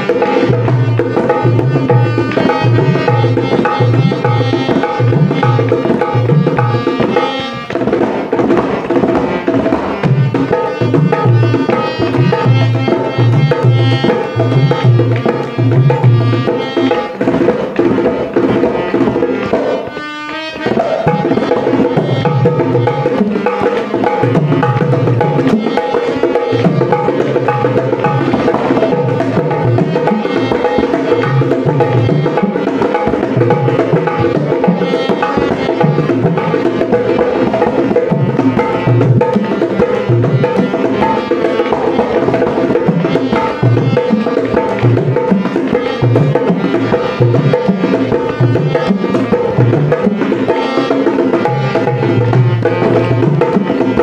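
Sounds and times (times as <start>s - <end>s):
hand drum fast rhythm: 0.0s - 54.0s.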